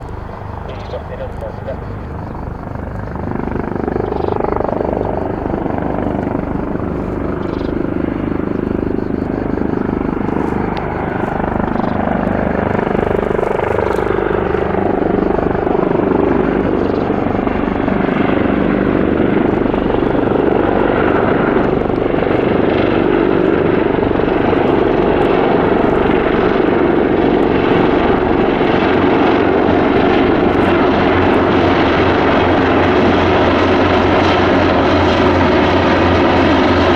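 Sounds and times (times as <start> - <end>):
helicopter engines and rotor: 0.0 - 36.9.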